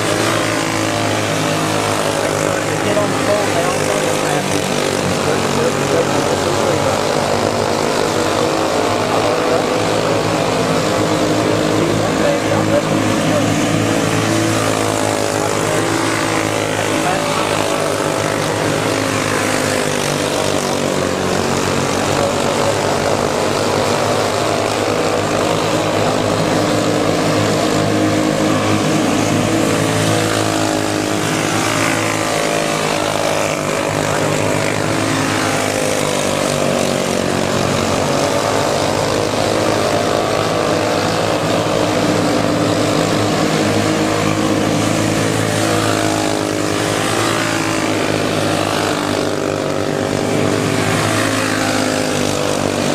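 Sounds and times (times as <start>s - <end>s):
go-kart engines revving: 0.0s - 52.9s.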